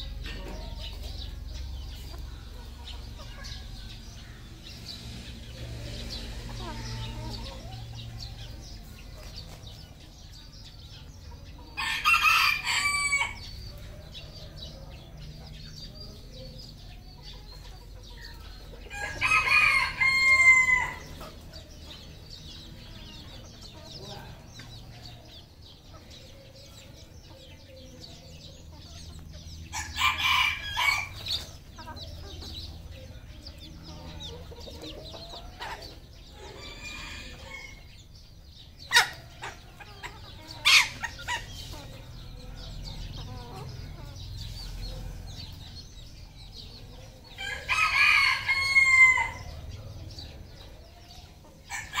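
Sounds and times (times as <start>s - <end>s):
roosters crowing: 0.0s - 52.0s.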